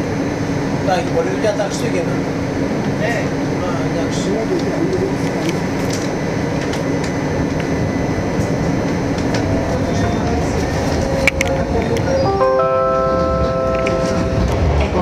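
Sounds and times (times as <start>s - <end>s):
tram wheels rumbling: 0.0s - 15.0s.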